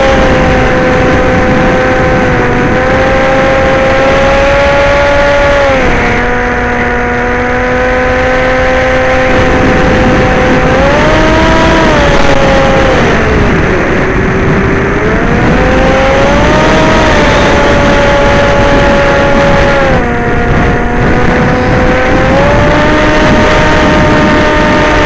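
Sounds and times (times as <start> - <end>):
model aircraft motor whine: 0.0 - 25.0.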